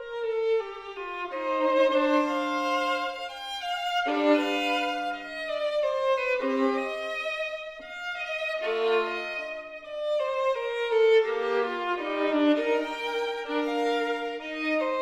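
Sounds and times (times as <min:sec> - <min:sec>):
slow violin music: 0:00.0 - 0:15.0.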